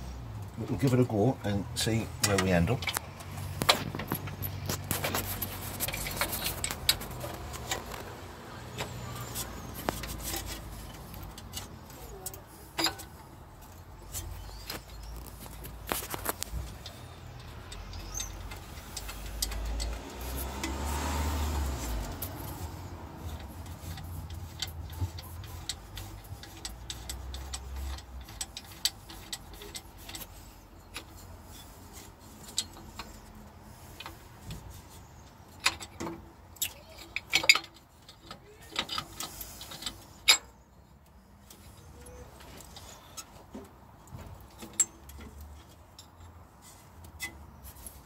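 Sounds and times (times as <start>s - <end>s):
metal parts clicking and knocking: 1.8s - 21.0s, 21.6s - 48.0s.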